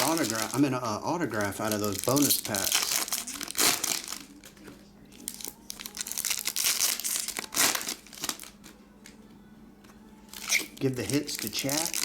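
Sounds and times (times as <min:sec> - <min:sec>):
foil wrappers crinkling and tearing: 0:00.0 - 0:08.8, 0:10.2 - 0:12.0.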